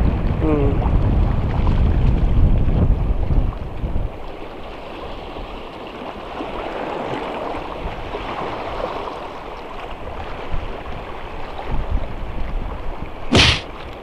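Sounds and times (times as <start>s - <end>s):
wind on microphone: 0.0s - 5.7s, 6.4s - 14.0s
sea water lapping over rocks: 0.0s - 14.0s.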